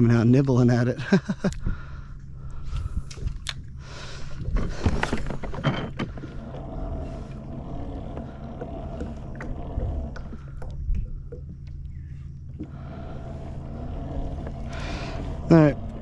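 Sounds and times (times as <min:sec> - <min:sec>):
low steady rumble: 0:00.0 - 0:16.0
water sloshing against a kayak hull: 0:02.4 - 0:16.0.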